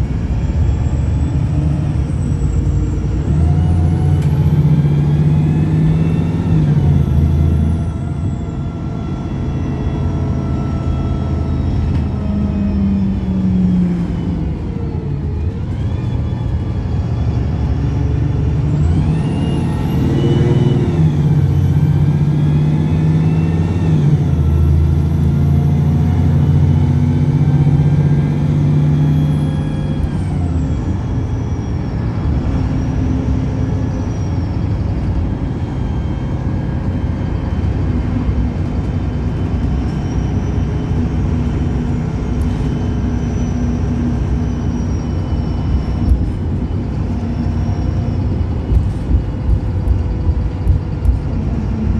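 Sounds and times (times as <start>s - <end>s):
bus diesel engine revving: 0.0s - 51.9s
high engine whine: 0.0s - 51.9s.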